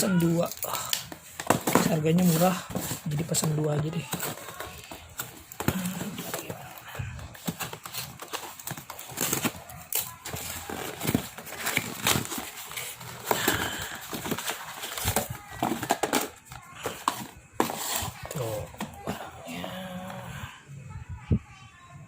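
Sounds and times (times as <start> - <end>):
plastic packaging crinkling: 0.0 - 19.1.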